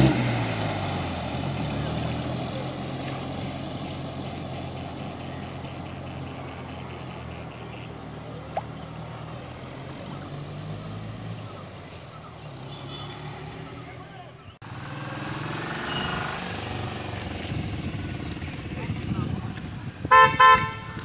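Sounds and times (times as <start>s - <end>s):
water splashing from wheels: 0.0s - 21.0s.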